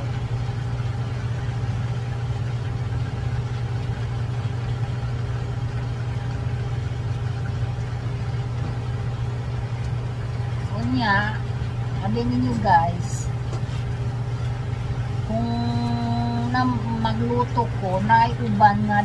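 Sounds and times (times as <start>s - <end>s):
appliance motor hum: 0.0s - 19.0s.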